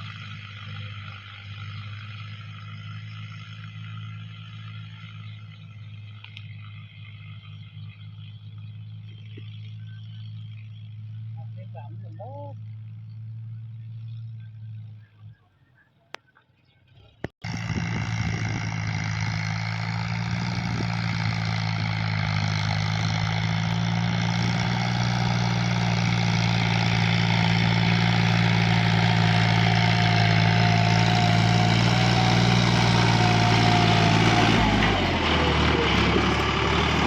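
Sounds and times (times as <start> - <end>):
tractor diesel engine running: 0.0 - 15.5, 17.4 - 37.0.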